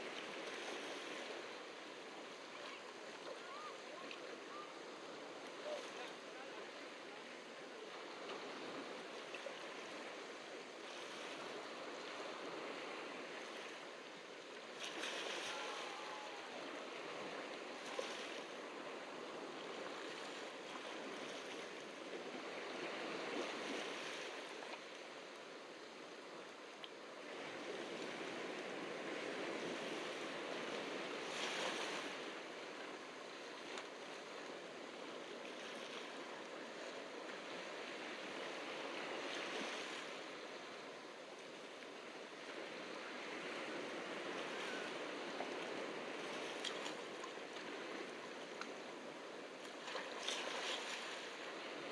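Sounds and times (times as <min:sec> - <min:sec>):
ocean waves breaking: 0:00.0 - 0:25.0, 0:27.2 - 0:51.9.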